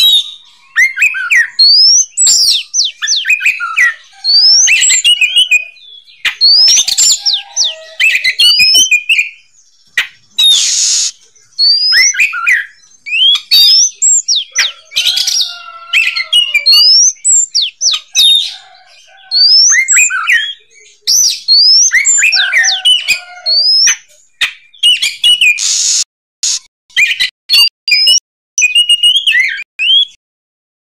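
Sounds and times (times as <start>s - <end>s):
magpie-robin singing whistles: 0.0s - 18.6s, 19.2s - 26.0s, 26.9s - 30.2s.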